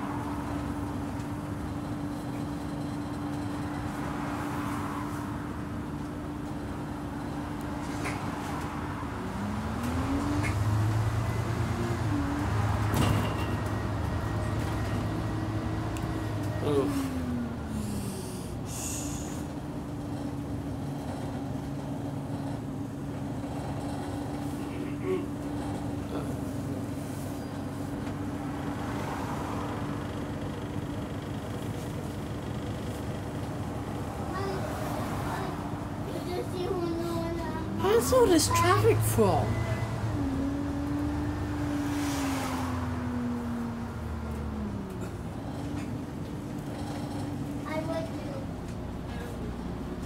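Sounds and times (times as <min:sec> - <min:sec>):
bus engine idling: 0:00.0 - 0:04.1, 0:05.2 - 0:41.0, 0:43.6 - 0:50.0.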